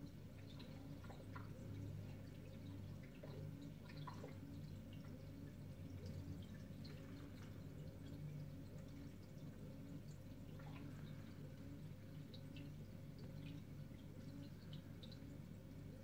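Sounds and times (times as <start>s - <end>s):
aquarium pump hum: 0.0s - 16.0s
water drips and plinks: 0.0s - 16.0s.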